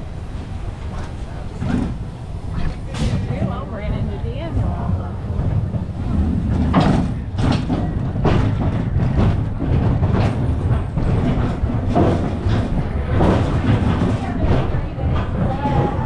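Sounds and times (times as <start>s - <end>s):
roller coaster rumbling on track: 0.0s - 16.0s
track clacking: 0.0s - 16.0s.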